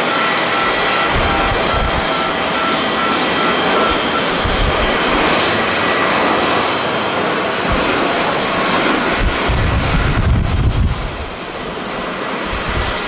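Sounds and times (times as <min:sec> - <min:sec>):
jet engines running: 0:00.0 - 0:13.0
wind buffeting microphone: 0:00.6 - 0:13.0.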